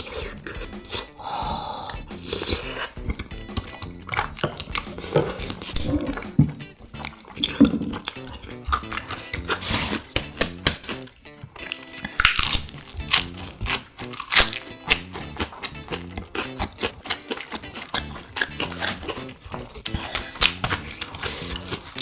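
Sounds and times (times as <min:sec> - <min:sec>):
background music: 0:00.0 - 0:22.0
crunchy chewing: 0:01.9 - 0:22.0.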